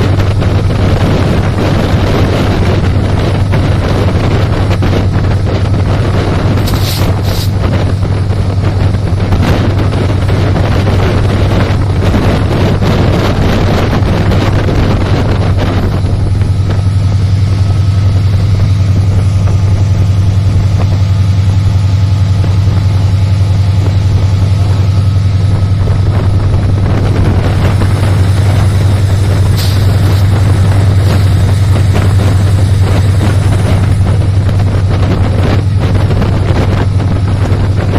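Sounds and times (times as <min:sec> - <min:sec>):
train rumbling: 0:00.0 - 0:37.9
wind buffeting microphone: 0:00.0 - 0:37.9.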